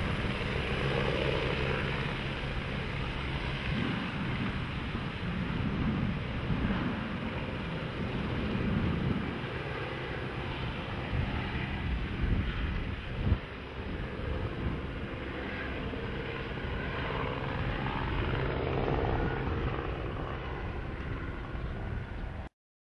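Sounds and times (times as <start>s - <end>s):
helicopter rotor and engine: 0.0s - 22.5s.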